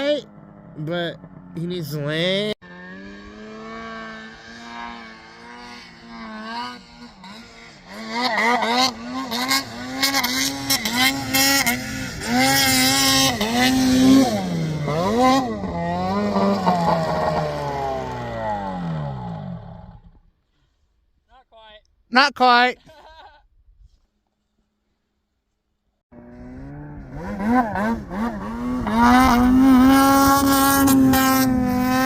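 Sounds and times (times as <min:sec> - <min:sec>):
snowmobile engine revving: 0:00.0 - 0:20.3, 0:26.2 - 0:32.0.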